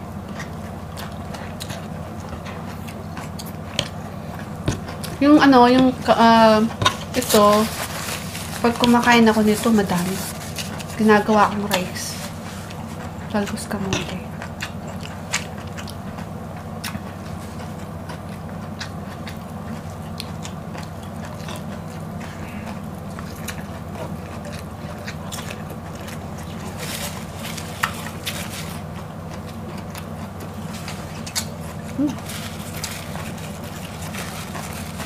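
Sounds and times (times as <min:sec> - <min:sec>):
chewing leafy greens: 0:00.0 - 0:35.0
low background hum: 0:00.0 - 0:35.0.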